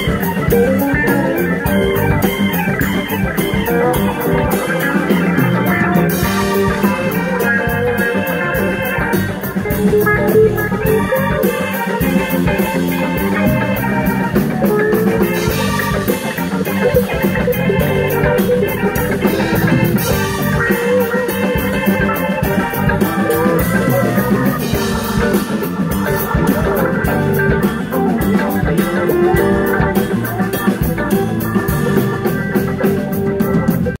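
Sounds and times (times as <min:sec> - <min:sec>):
bass guitar: 0:00.0 - 0:34.0
drum kit: 0:00.0 - 0:34.0
electric guitars: 0:00.0 - 0:34.0
organ-sounding keyboard: 0:00.0 - 0:34.0.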